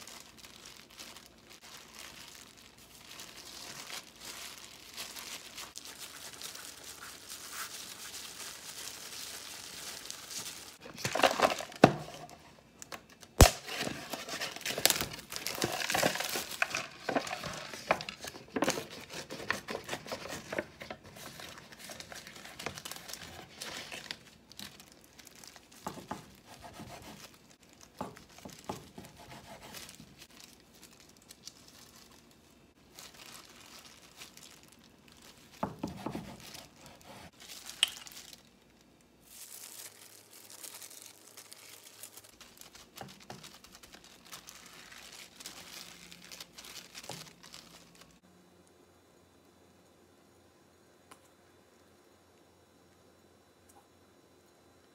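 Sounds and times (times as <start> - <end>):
packaging crinkling and tearing: 0.0 - 48.2
plastic gloves rustling: 0.0 - 48.2.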